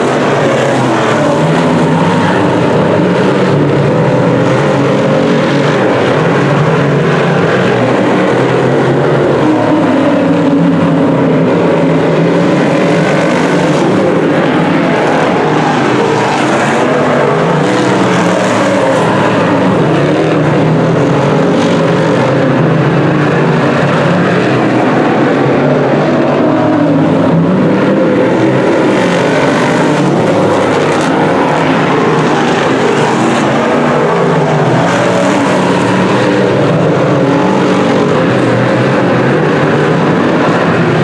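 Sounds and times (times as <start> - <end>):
race car engines at high revs: 0.0 - 41.0.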